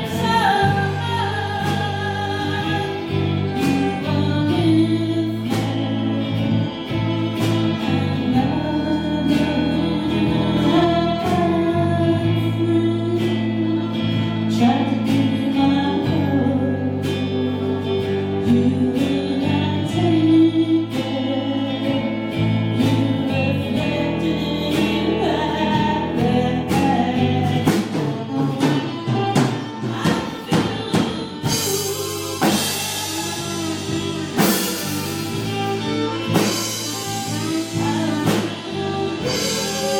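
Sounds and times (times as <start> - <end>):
band playing with vocals: 0.0 - 39.9.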